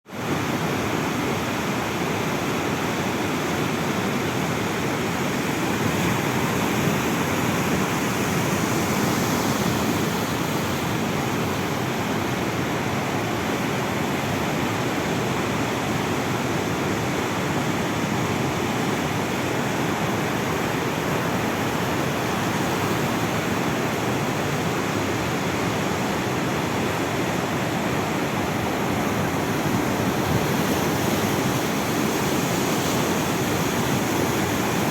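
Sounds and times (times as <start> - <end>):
sea waves breaking: 0.1 - 34.9.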